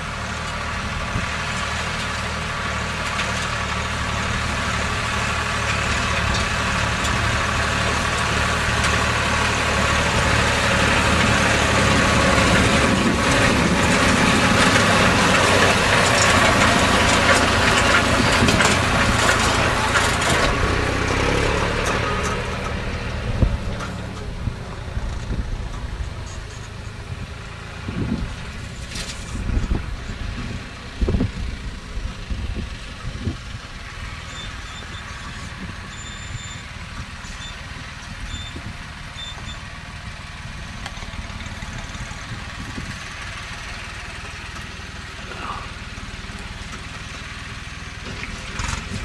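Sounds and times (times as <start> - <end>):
forage wagon pickup and rotor: 0.0 - 49.0
tractor engine under load: 0.0 - 49.0.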